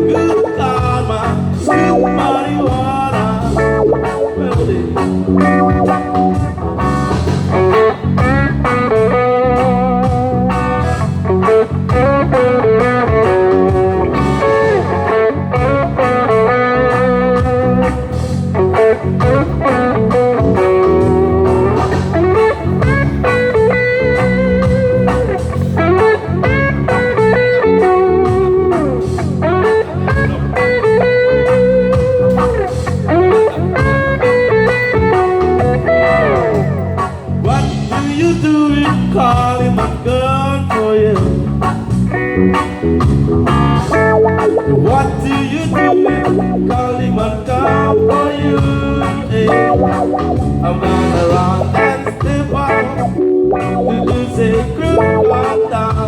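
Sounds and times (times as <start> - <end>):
steady beat: 0.0 - 40.0, 41.2 - 56.0
bass guitar: 0.0 - 56.0
electric lead guitar melody: 0.0 - 56.0.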